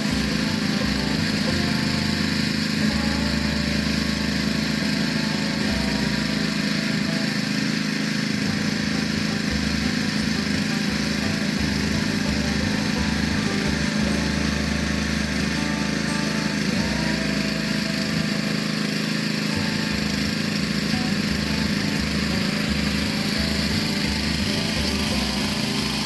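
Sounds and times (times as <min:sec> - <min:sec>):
small engine pump running: 0:00.0 - 0:26.0
spray hissing from nozzle: 0:00.0 - 0:26.0.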